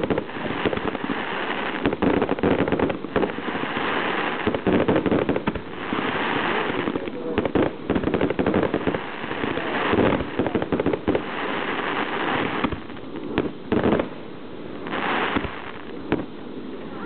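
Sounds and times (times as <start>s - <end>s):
fireworks banging: 0.0s - 16.4s
fireworks crackling and hissing: 0.0s - 17.0s.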